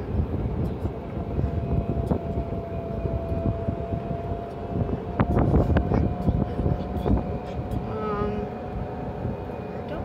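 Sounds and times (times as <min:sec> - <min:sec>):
wind and road noise: 0:00.0 - 0:10.0
golf cart motor whine: 0:00.2 - 0:09.8.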